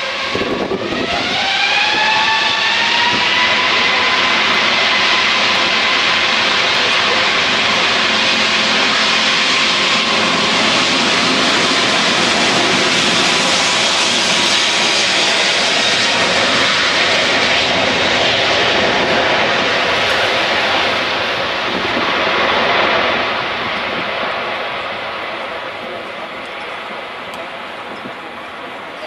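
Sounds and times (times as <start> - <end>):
jet engines at take-off thrust: 0.0 - 29.0.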